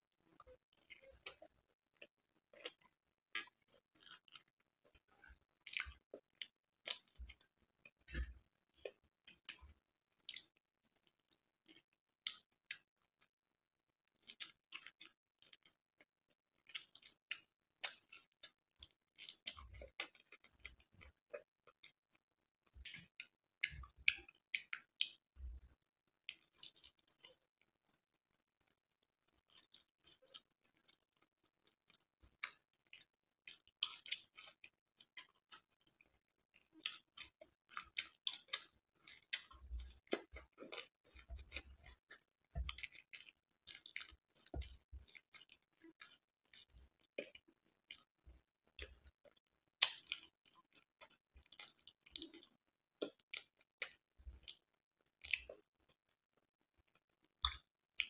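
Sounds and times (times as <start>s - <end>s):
chewing mouth clicks: 0.4s - 12.8s, 14.2s - 15.8s, 16.6s - 22.0s, 26.3s - 48.1s, 48.8s - 56.0s, 56.8s - 58.0s.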